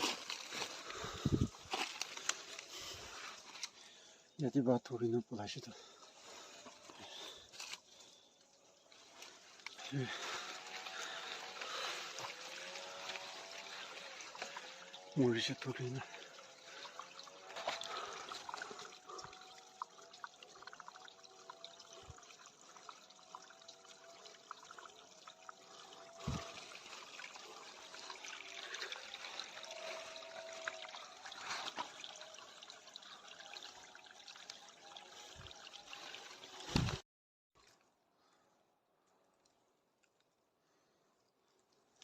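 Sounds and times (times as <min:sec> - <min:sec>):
water trickling and splashing: 0:00.0 - 0:37.0.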